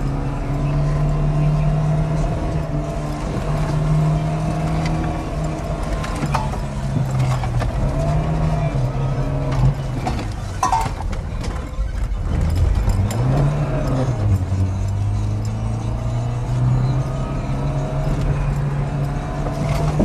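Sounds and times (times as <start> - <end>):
car engine running: 0.0 - 20.0
gear change: 0.0 - 20.0.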